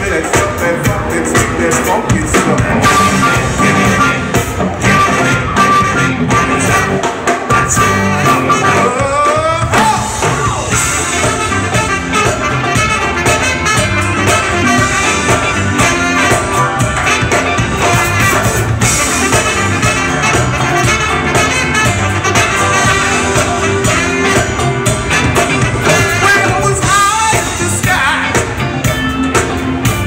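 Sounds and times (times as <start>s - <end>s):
funk band playing: 0.0s - 30.0s.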